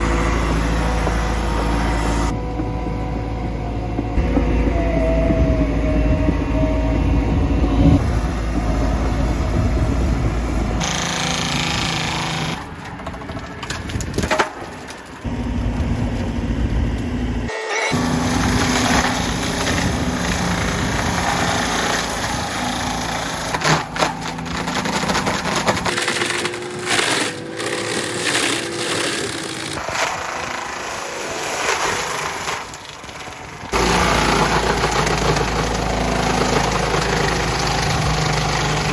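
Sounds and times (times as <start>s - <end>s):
diesel engine running: 0.0s - 13.6s, 15.1s - 38.9s
mulcher rotor shredding brush: 0.0s - 38.9s.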